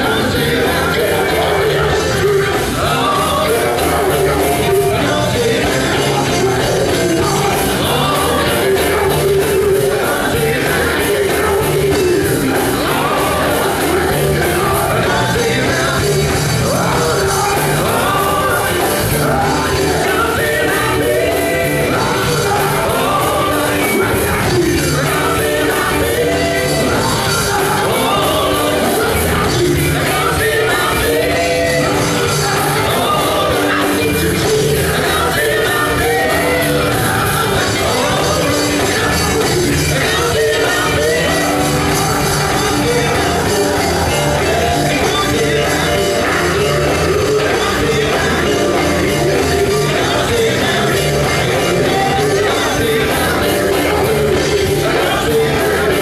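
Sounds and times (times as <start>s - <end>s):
bass: 0.0s - 56.0s
drums: 0.0s - 56.0s
male vocal group singing: 0.0s - 56.0s.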